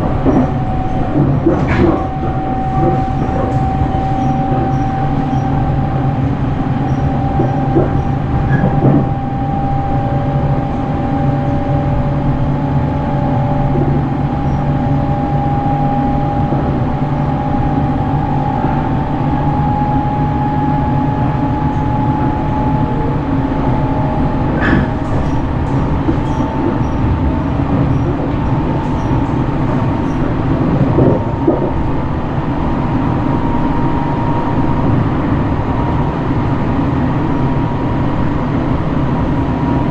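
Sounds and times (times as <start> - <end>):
train knocks: 0.0 - 36.3
train rumble with rising whine: 0.0 - 39.9.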